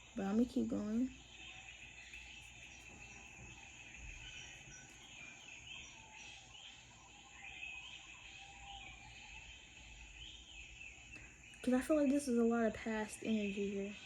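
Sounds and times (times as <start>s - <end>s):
birds chirping: 0.0s - 14.0s
insects chorus: 0.0s - 14.0s.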